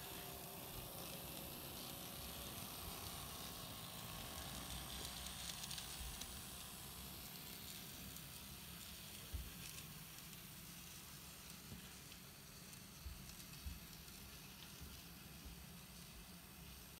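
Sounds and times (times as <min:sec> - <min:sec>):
model train motor whirring: 0:00.0 - 0:16.9.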